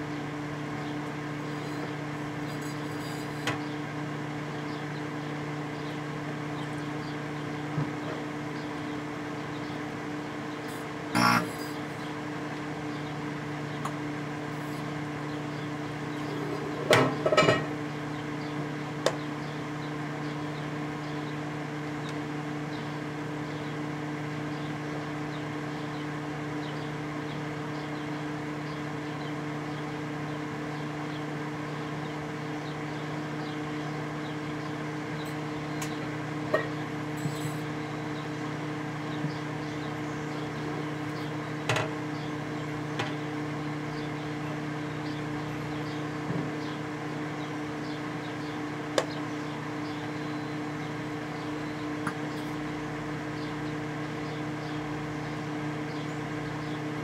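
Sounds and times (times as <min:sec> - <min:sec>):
microwave oven electrical hum: 0:00.0 - 0:57.0.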